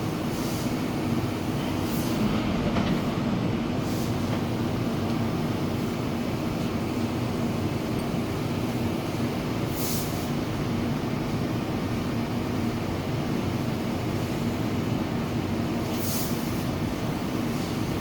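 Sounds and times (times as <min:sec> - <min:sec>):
mechanical hum and rumble: 0:00.0 - 0:18.0.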